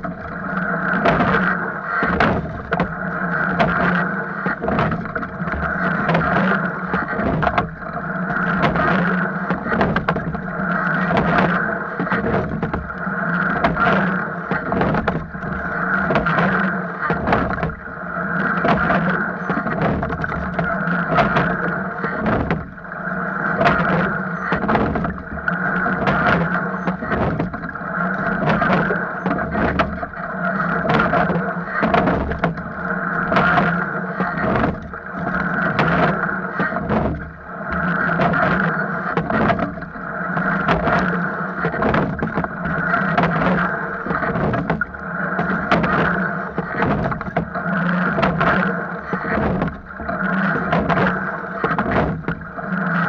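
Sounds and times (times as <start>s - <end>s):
oars clunking in oarlocks: 0.0s - 53.0s
water noise of rowing hull: 0.0s - 53.0s.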